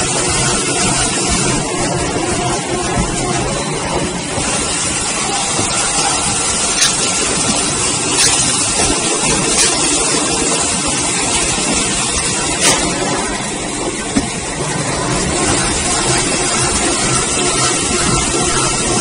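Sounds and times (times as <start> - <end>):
band saw machine running: 0.0 - 19.0.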